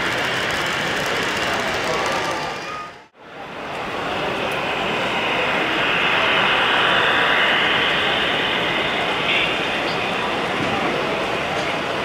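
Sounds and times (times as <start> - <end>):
model train rolling on track: 0.0 - 12.0.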